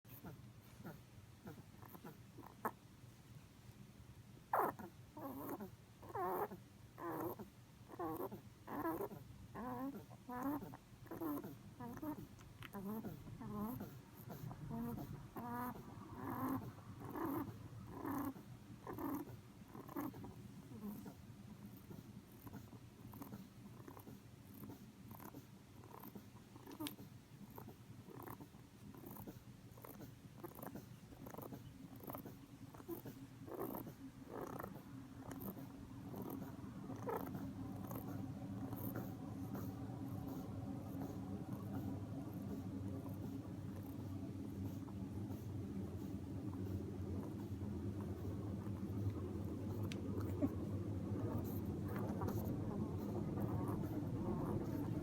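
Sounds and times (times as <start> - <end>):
rabbit snoring: 0.0 - 2.9, 4.5 - 55.0.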